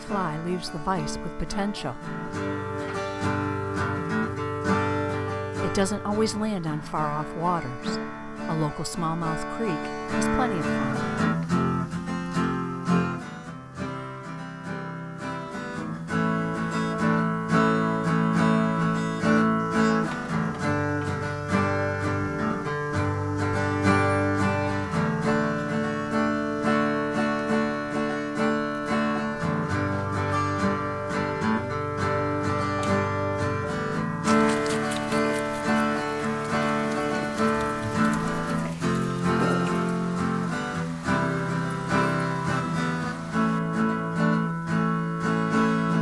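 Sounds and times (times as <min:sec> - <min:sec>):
strummed acoustic guitar music: 0:00.0 - 0:46.0.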